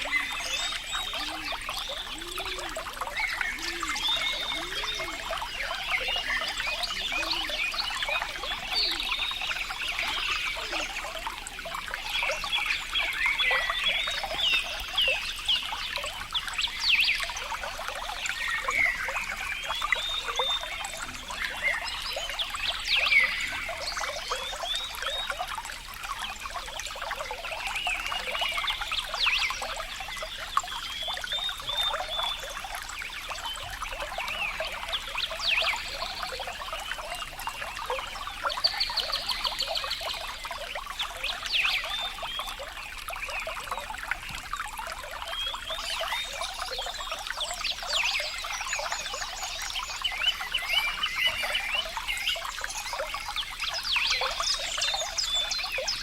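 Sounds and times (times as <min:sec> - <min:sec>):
water trickling and splashing: 0:00.0 - 0:56.0.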